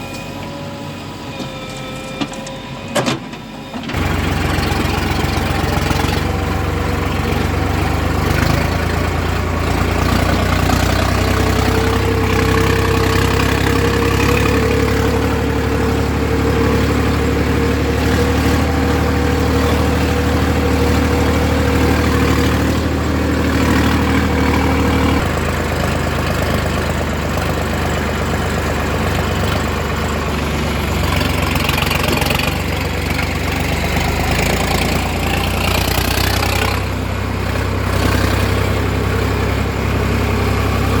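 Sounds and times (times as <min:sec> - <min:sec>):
heavy machinery diesel engine: 0:00.0 - 0:41.0.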